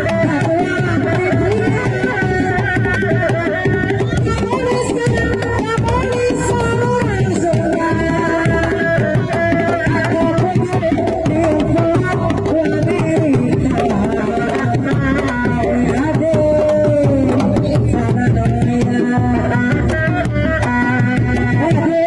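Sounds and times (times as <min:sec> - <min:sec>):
hand drums rapid rhythm: 0:00.0 - 0:22.0.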